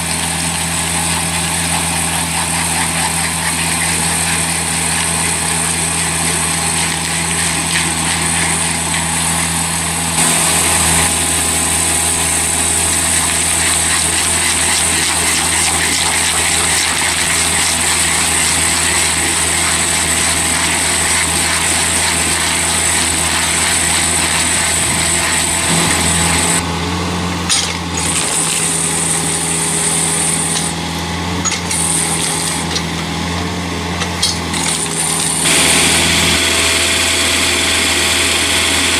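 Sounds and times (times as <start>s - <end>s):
heavy machine engine drone: 0.0s - 38.9s
high machine whine: 0.0s - 38.9s.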